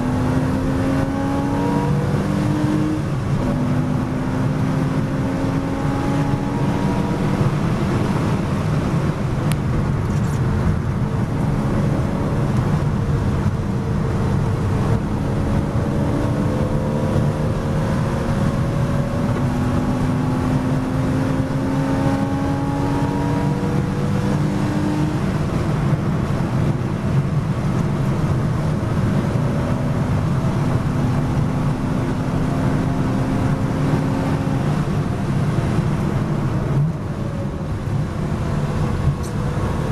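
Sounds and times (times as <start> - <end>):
race car engine accelerating: 0.0 - 10.2, 11.0 - 39.9
road and wind noise rumble: 0.0 - 39.9.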